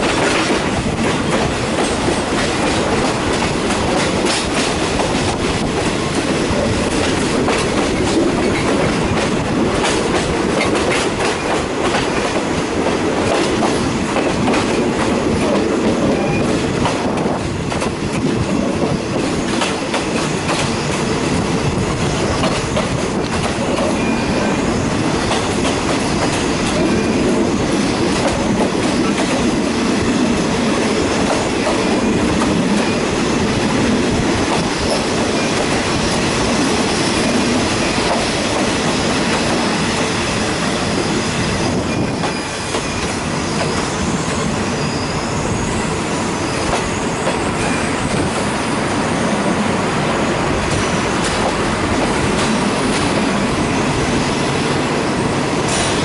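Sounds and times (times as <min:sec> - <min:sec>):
clickety-clack of rail joints: 0:00.0 - 0:56.0
train wheels rumbling on rail: 0:00.0 - 0:56.0.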